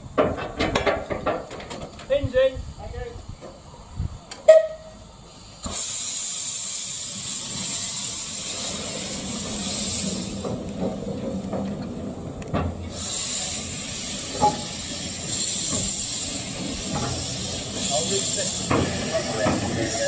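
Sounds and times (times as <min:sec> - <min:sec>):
locomotive steam hissing: 0:00.0 - 0:20.0.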